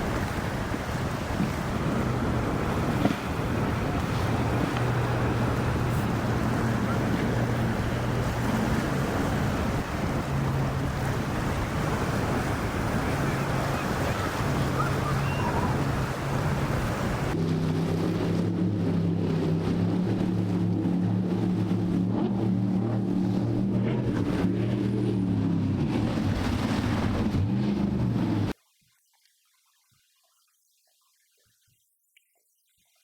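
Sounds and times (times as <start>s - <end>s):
motorboat engines droning: 0.0s - 28.6s
surf: 0.0s - 28.6s
wind: 0.0s - 33.0s.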